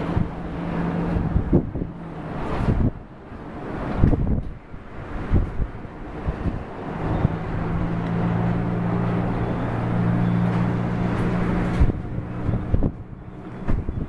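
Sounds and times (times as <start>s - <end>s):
vehicle engine running: 0.0s - 14.0s
wind buffeting microphone: 0.0s - 14.0s.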